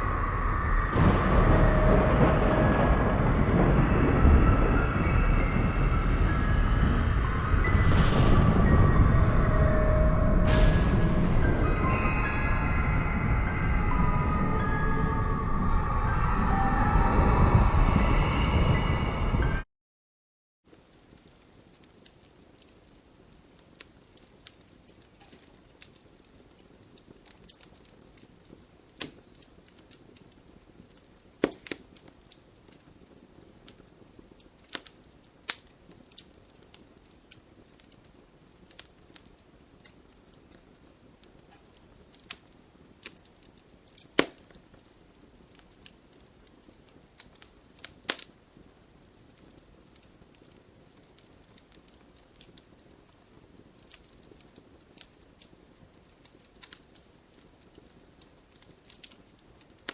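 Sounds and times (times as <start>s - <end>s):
fire crackling: 0.0s - 19.6s, 20.7s - 59.9s.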